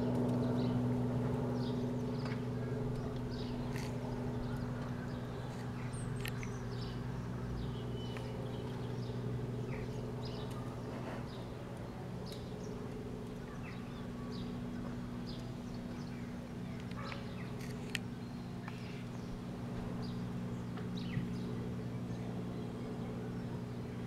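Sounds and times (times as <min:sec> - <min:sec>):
birds chirping: 0:00.0 - 0:24.0
distant helicopter hum: 0:00.0 - 0:24.0.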